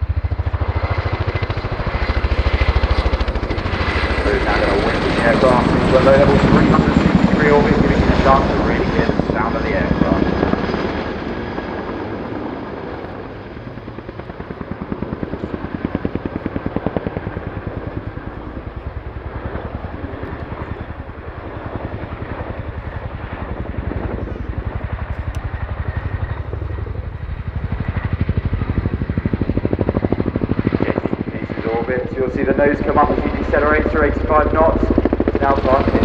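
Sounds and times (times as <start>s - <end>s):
helicopter rotor blade slap: 0.0s - 36.0s.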